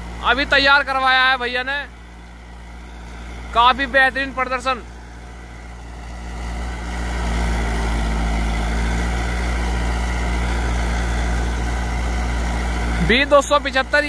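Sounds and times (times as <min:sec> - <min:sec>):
rotavator tilling soil: 0:00.0 - 0:14.0
tractor diesel engine under load: 0:00.0 - 0:14.0.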